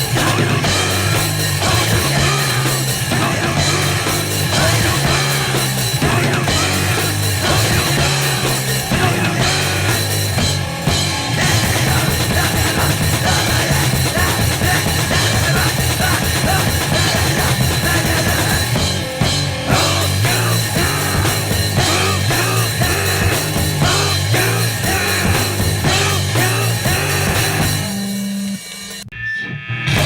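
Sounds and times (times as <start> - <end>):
drums: 0.0 - 30.0
harsh distorted noise music: 0.0 - 30.0.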